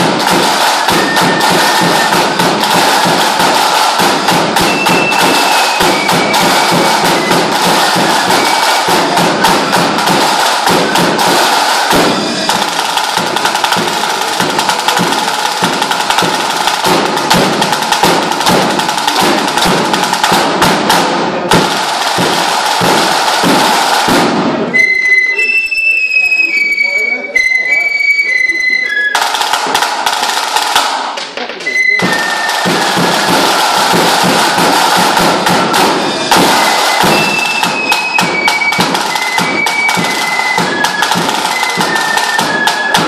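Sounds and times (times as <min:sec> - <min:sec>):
big drum beaten with canes: 0:00.0 - 0:24.8, 0:29.2 - 0:43.0.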